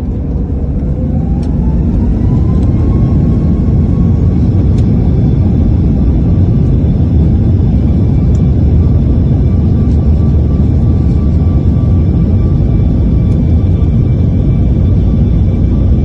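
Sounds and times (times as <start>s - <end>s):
jet engines rumbling at takeoff: 0.0s - 16.0s.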